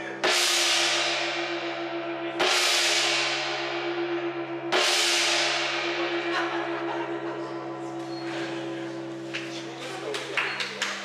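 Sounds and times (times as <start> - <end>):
gong struck with mallet: 0.1 - 10.2.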